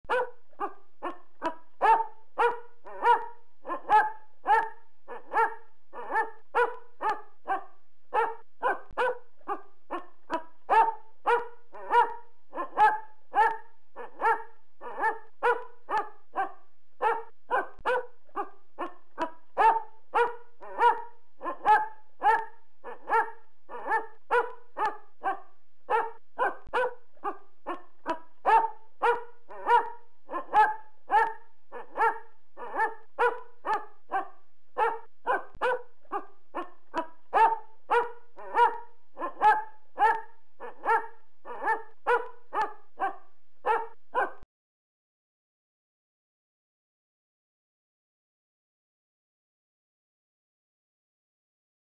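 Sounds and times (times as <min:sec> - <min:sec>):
dog barking loudly: 0:00.1 - 0:44.4.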